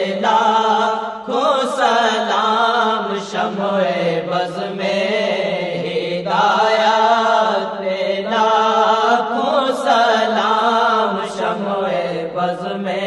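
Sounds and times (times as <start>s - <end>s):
low vocal drone: 0.0s - 13.0s
man singing unaccompanied: 0.0s - 13.0s.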